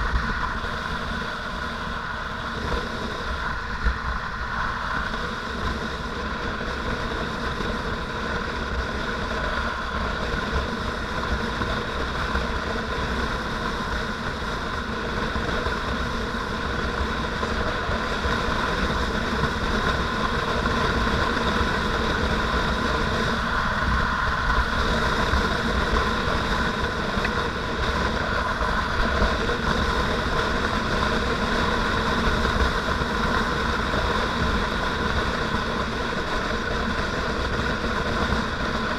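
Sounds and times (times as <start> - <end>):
motorcycle engine drone: 0.0 - 38.9
wind rushing over microphone: 0.0 - 38.9.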